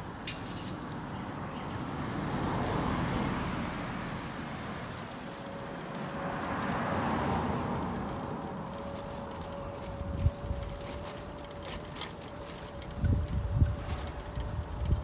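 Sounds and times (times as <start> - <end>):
road vehicles passing: 0.0 - 15.0.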